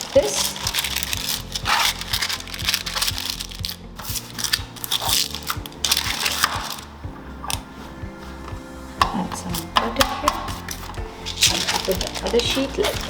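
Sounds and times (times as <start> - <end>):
background music with steady beat: 0.0 - 13.0
parchment paper crinkling: 0.0 - 13.0.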